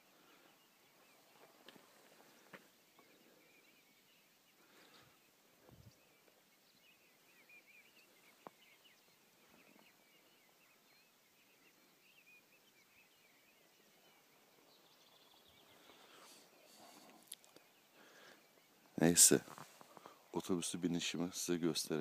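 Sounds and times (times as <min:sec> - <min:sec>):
small birds twittering: 0:00.0 - 0:22.0.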